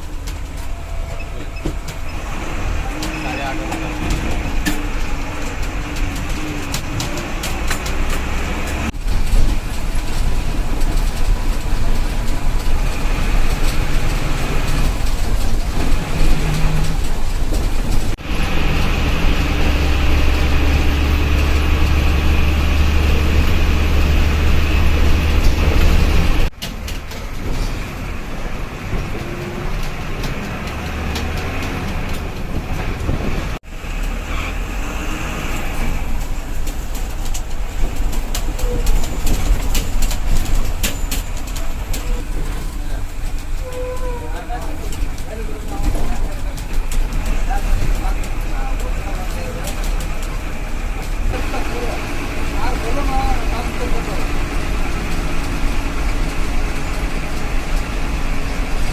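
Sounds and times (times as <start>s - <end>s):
bus diesel engine drone: 0.0s - 58.9s
road noise: 0.0s - 58.9s.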